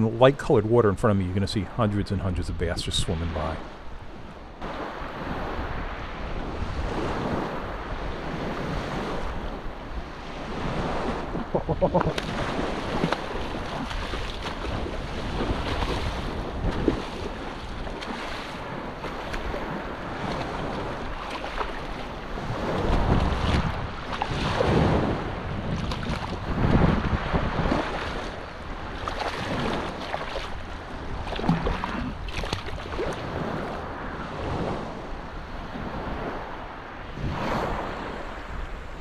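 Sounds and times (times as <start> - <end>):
wind buffeting microphone: 1.9 - 39.0
small waves lapping: 3.1 - 38.6.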